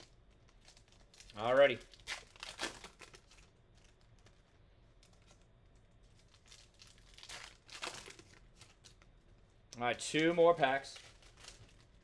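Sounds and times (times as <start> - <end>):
card pack wrapper crinkling: 0.0 - 9.1, 10.5 - 12.0.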